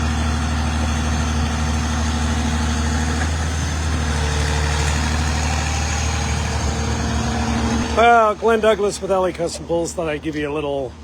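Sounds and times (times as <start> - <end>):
heavy engine droning: 0.0 - 11.0.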